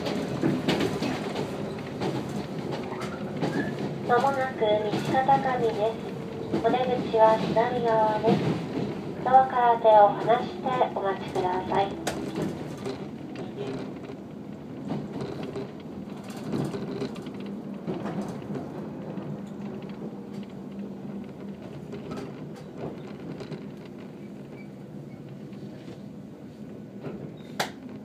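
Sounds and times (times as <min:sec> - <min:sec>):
train clicks and rattles: 0:00.0 - 0:28.0
train interior low hum: 0:00.0 - 0:28.0.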